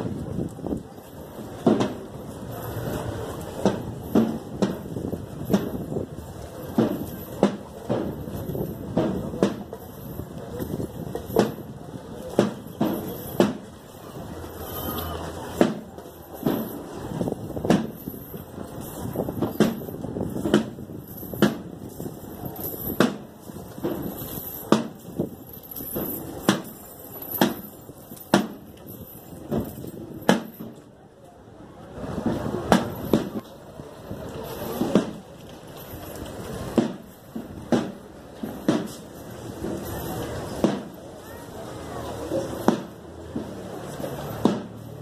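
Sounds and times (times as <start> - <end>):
crowd murmur: 0.0 - 45.0.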